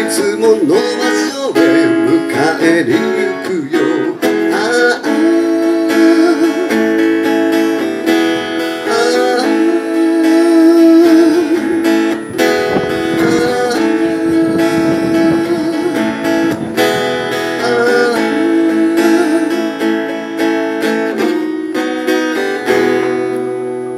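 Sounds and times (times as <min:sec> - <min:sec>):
acoustic guitar strumming: 0:00.0 - 0:23.9
person singing long wavering notes: 0:00.3 - 0:20.1.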